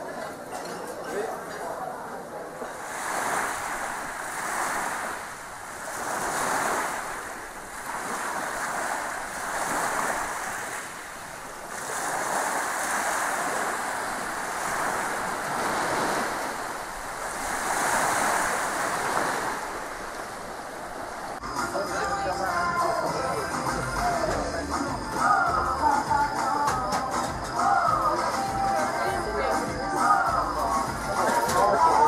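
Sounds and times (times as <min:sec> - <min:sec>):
sea waves washing in: 0:02.3 - 0:32.0.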